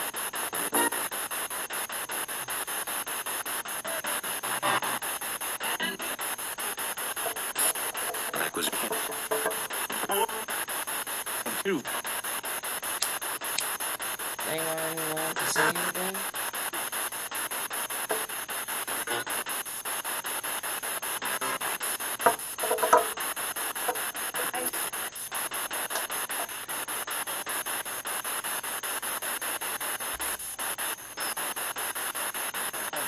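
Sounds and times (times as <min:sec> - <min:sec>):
chopped radio static hiss: 0:00.0 - 0:33.0
voice-like radio snatches: 0:00.0 - 0:33.0.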